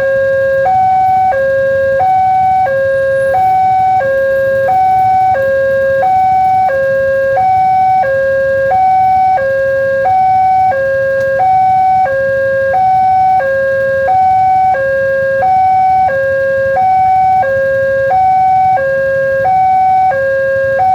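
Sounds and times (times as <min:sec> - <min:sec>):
two-tone level crossing siren: 0:00.0 - 0:20.9.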